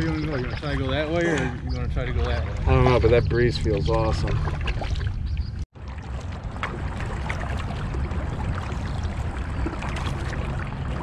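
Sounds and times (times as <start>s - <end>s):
paddle splashing water: 0.0s - 11.0s
small water drips: 0.0s - 11.0s
steady low rumble: 0.8s - 11.0s.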